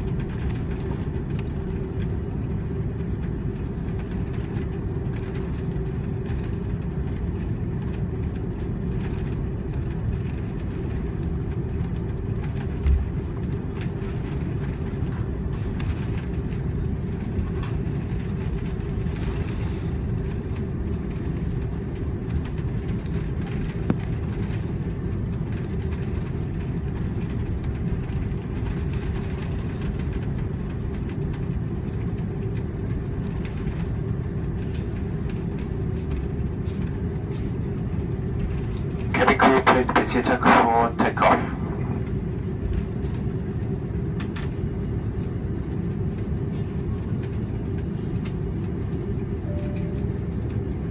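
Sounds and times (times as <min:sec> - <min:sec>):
aircraft engines and wheels rumbling: 0:00.0 - 0:50.9
constant hum: 0:00.0 - 0:50.9.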